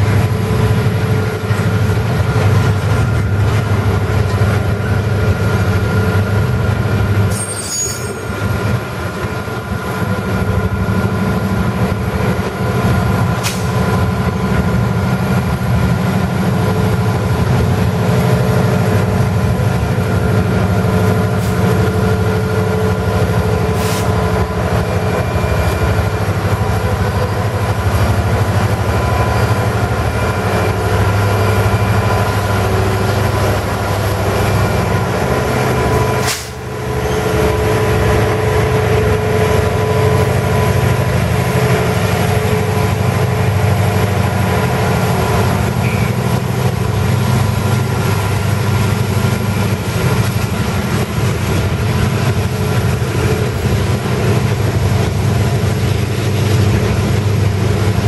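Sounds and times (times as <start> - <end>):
diesel locomotives passing: 0.0 - 58.0
railcars rumbling and rattling: 0.0 - 58.0.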